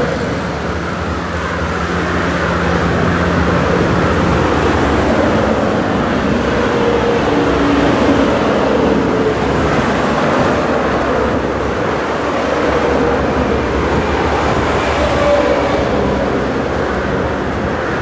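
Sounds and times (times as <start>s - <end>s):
motorway traffic roar: 0.0s - 18.0s
truck engines humming: 0.0s - 18.0s.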